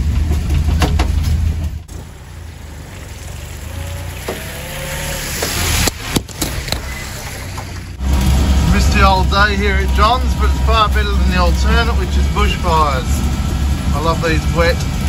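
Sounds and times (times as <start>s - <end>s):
vehicle driving on dirt track: 0.0s - 15.0s
engine running loudly: 1.9s - 15.0s.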